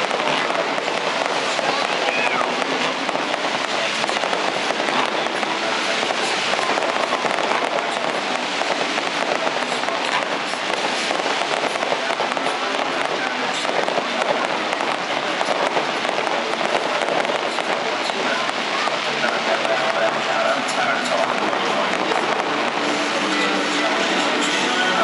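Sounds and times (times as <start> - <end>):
fireworks crackling and banging: 0.0 - 25.0.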